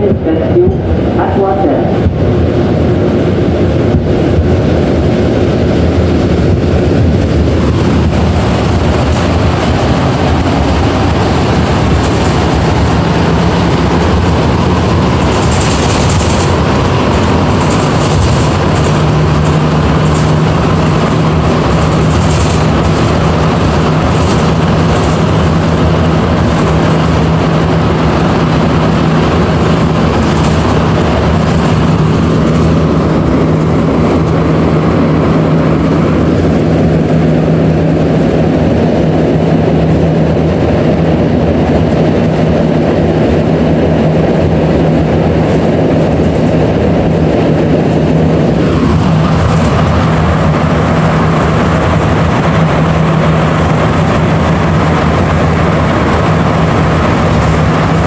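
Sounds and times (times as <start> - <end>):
low steady hum: 0.0 - 58.0
metro train rumbling: 0.0 - 58.0.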